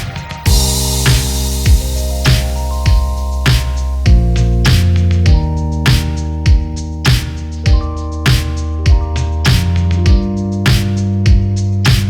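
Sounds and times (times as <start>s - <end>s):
sustained synth chords: 0.5s - 11.8s
electronic drum hits: 0.5s - 12.0s.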